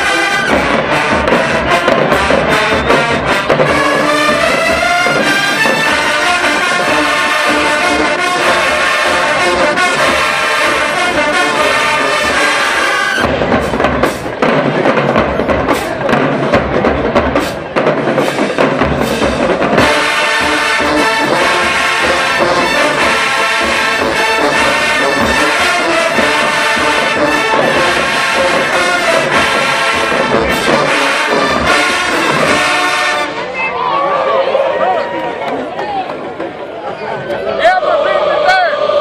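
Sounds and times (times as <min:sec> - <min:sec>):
marching band playing: 0:00.0 - 0:39.0.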